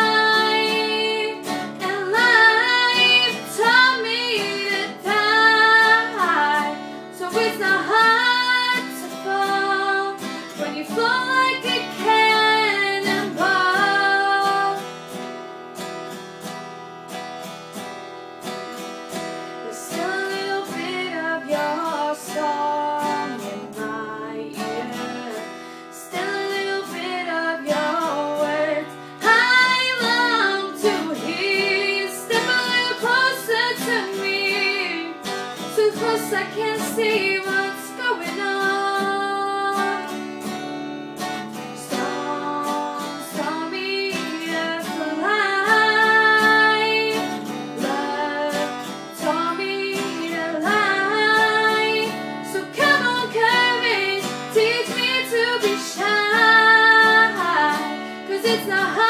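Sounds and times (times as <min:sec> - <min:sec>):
woman singing: 0:00.0 - 0:15.2, 0:19.6 - 0:40.5, 0:41.2 - 0:59.0
acoustic guitar strumming: 0:00.0 - 0:59.0.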